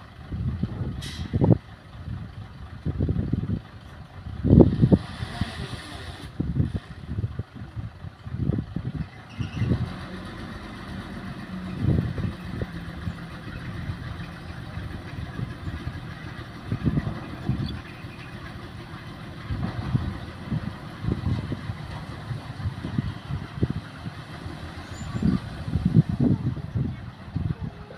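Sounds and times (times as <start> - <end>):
diesel engine running: 0.0 - 27.9
low rumbles: 0.0 - 27.9.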